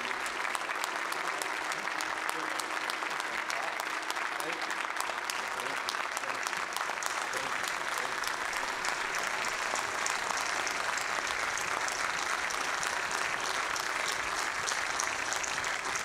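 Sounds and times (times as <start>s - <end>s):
large crowd applauding: 0.0s - 16.0s.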